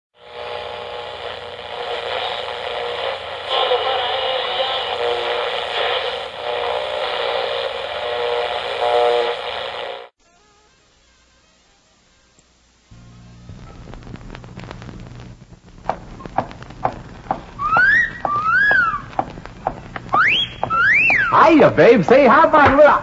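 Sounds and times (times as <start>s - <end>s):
dense held tones and hiss: 0.2s - 23.0s.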